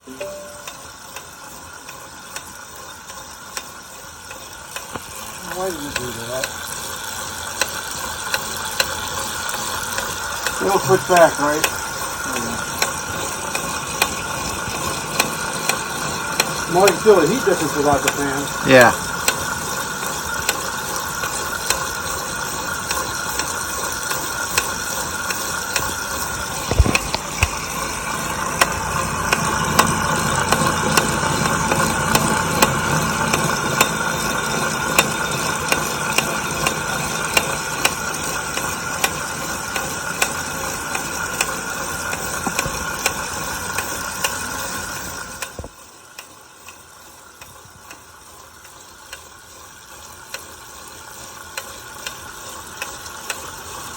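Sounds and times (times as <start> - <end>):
bike trainer whirring: 0.0 - 53.9.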